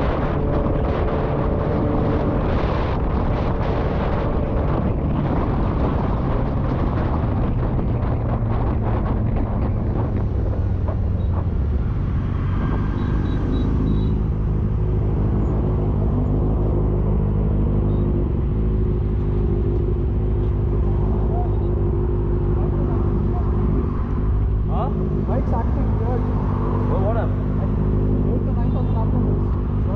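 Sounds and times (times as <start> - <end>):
wind buffeting microphone: 0.0 - 28.6.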